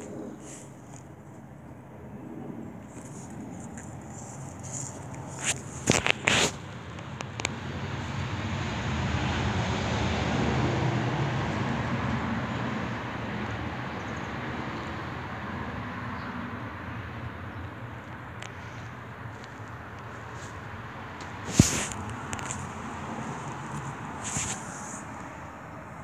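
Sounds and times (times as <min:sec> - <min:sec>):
passing vehicle rumble: 0:00.0 - 0:26.0.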